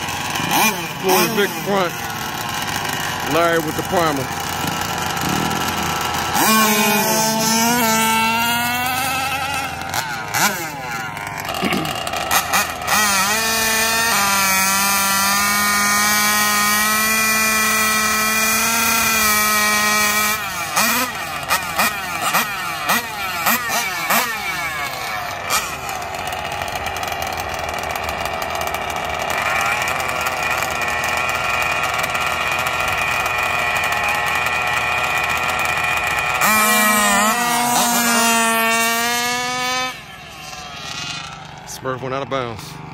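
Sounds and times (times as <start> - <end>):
small two-stroke engines revving: 0.0 - 42.9.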